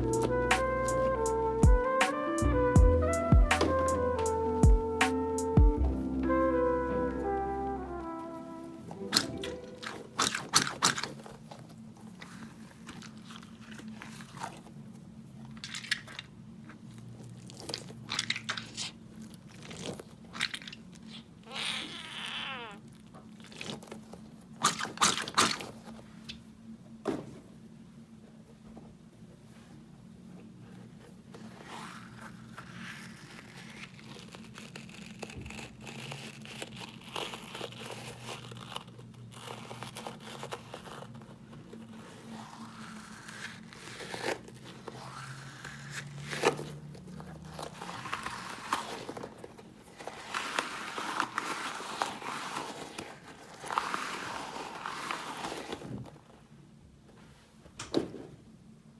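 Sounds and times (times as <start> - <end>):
foam toys crinkling and rustling: 8.0 - 57.6.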